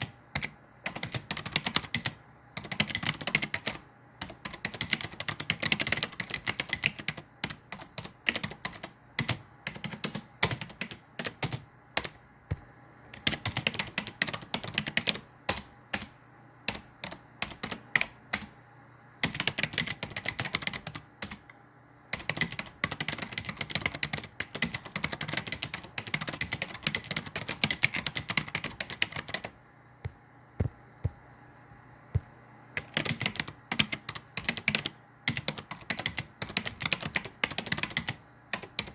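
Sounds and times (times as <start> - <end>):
typing on computer keyboard: 0.0 - 12.2, 13.1 - 16.1, 16.7 - 18.5, 19.2 - 21.6, 22.2 - 29.5, 32.8 - 38.9.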